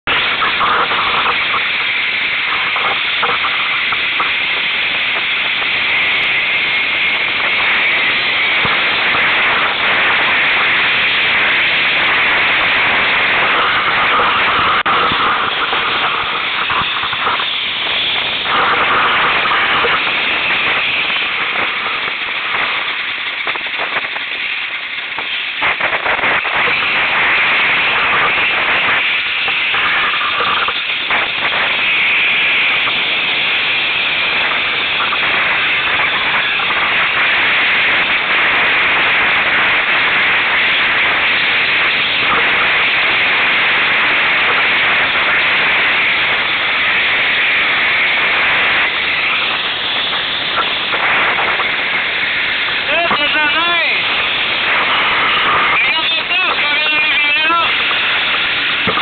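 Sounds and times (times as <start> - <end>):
snowmobile engine: 0.0 - 59.0
wind and snow rushing: 0.0 - 59.0.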